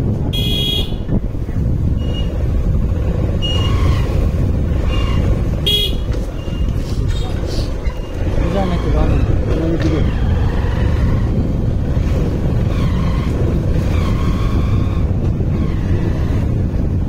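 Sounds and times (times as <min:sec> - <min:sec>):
motorcycle engine and road rumble: 0:00.0 - 0:17.0.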